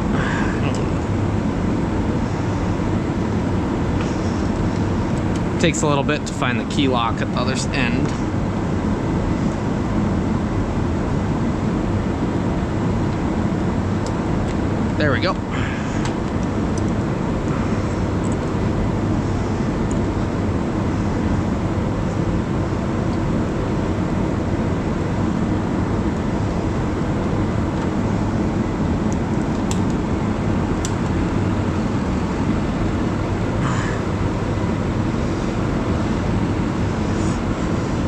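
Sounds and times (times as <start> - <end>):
mechanical drone: 0.0 - 38.0.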